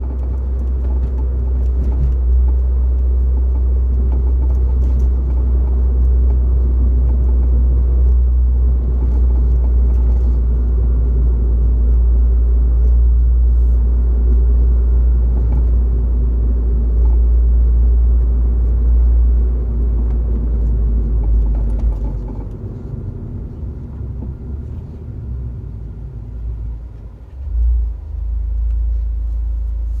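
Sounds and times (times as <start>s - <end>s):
car interior low rumble: 0.0s - 30.0s
suspension clicks: 0.0s - 30.0s.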